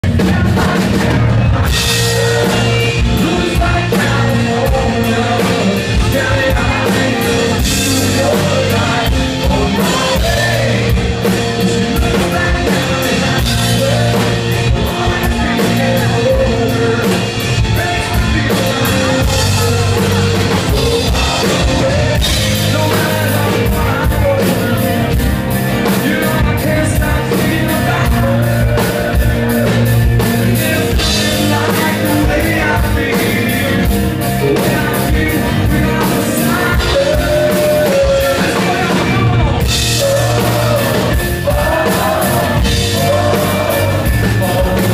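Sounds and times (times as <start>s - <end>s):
live country-rock band: 0.0s - 44.9s
man singing: 0.0s - 44.9s.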